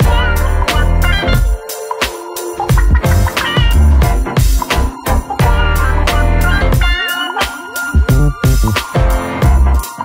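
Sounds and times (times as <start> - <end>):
instrumental music with heavy bass: 0.0 - 10.0.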